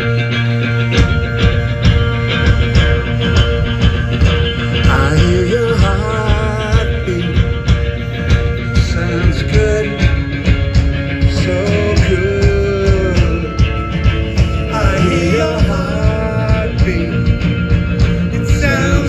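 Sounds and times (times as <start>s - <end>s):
drums beating: 0.0s - 19.0s
live rock band playing: 0.0s - 19.0s
sliding melody line: 0.5s - 19.0s.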